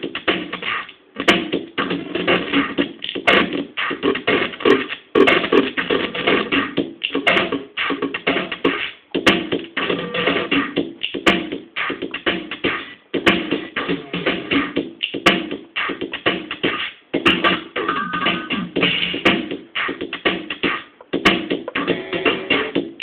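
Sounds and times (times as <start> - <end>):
drum machine fast drum pattern: 0.0 - 23.0.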